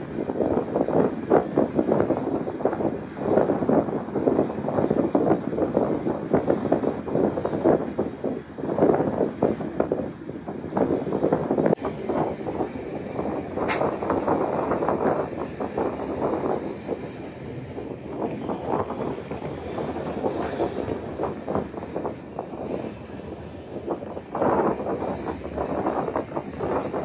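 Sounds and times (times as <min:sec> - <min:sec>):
freight train rumbling on rails: 0:00.0 - 0:27.0.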